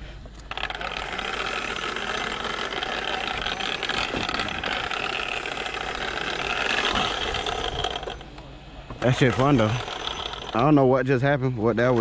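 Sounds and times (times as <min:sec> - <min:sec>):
buzzy two-stroke engine: 0:00.4 - 0:11.0.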